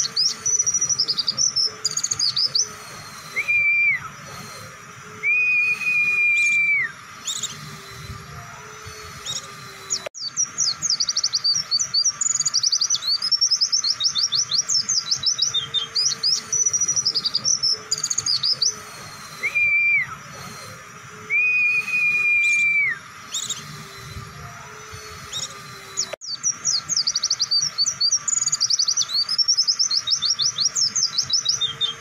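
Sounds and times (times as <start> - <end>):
bird chirping: 0.0 - 32.0
bird whistled notes: 0.0 - 32.0.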